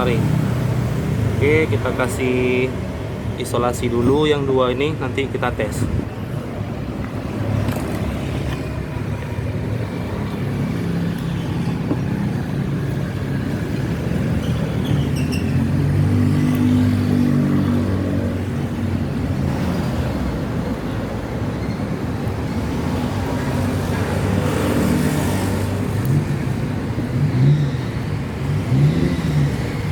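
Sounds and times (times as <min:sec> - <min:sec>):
vehicle engine humming: 0:00.0 - 0:29.9.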